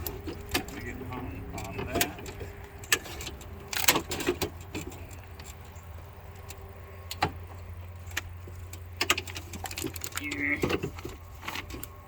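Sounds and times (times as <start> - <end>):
steady low hum: 0.0 - 12.0
metallic clicks and clanks: 1.5 - 12.0.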